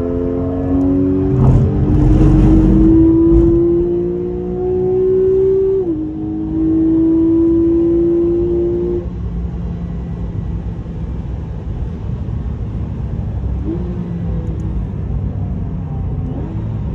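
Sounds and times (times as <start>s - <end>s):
car engine at high revs: 0.0s - 16.9s
engine tyre and road rumble: 0.0s - 16.9s.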